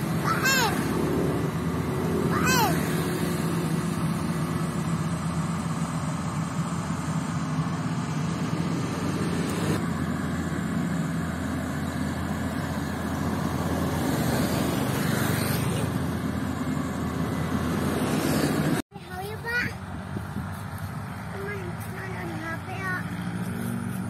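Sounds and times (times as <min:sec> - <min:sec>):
combine harvester droning: 0:00.0 - 0:24.0.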